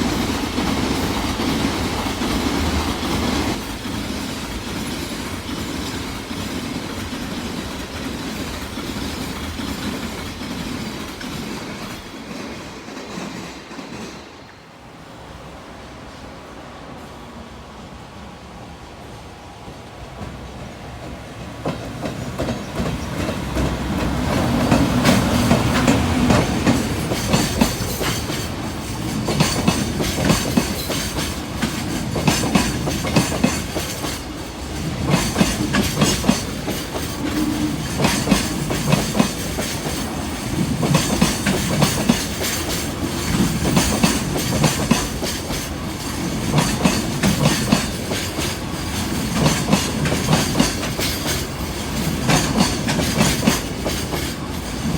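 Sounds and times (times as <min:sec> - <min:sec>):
freight train wheels clacking: 0:00.0 - 0:14.7, 0:20.1 - 0:54.9.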